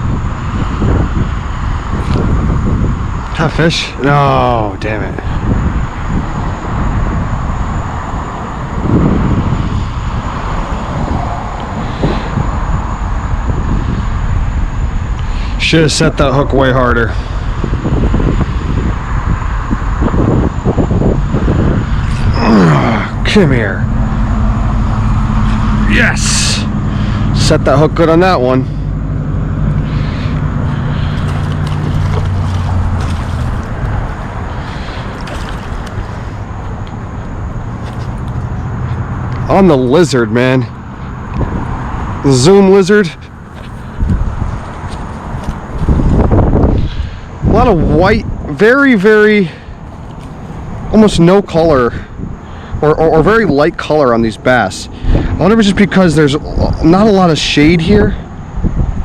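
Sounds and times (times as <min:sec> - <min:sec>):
passing vehicle engine hum: 0:00.0 - 0:15.6, 0:16.9 - 0:59.0
wind buffeting microphone: 0:00.0 - 0:59.0.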